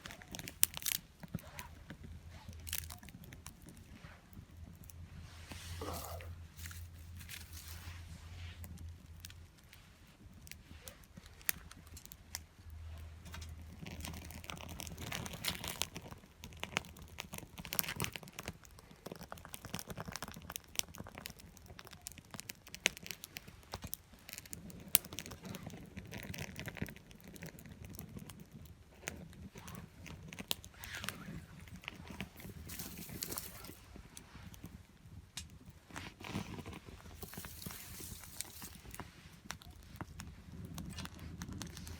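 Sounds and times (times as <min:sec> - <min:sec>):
small wood fire crackling: 0:00.0 - 0:41.9.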